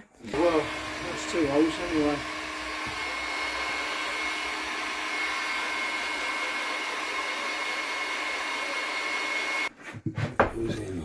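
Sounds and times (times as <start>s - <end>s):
heat gun blowing: 0.2s - 9.7s.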